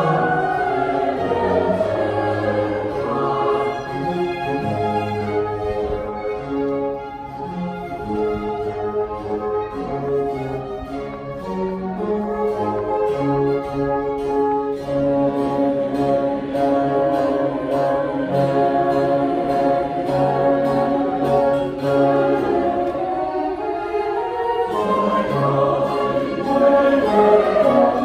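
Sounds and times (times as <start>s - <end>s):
baroque chamber orchestra playing: 0.0s - 28.0s.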